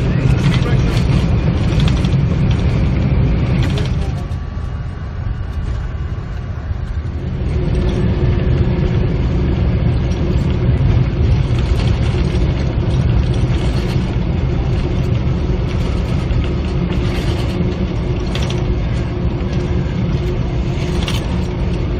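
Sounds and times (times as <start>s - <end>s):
airliner cockpit engine rumble: 0.0s - 21.9s
steady hum: 0.0s - 21.9s.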